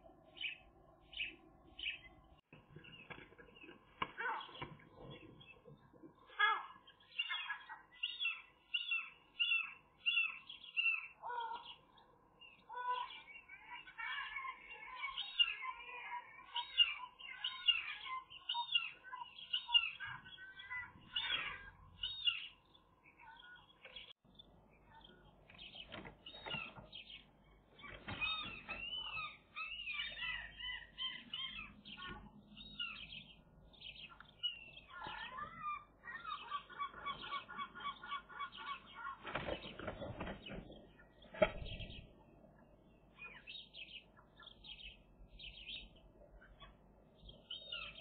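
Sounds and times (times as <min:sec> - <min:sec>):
birds singing and chirping: 0:00.0 - 0:48.0.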